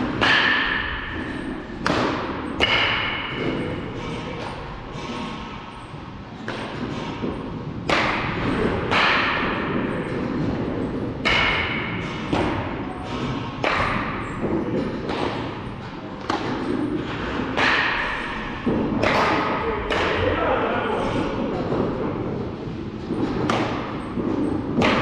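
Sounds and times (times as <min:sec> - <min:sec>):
baseballs striking with thuds: 0:00.0 - 0:25.0.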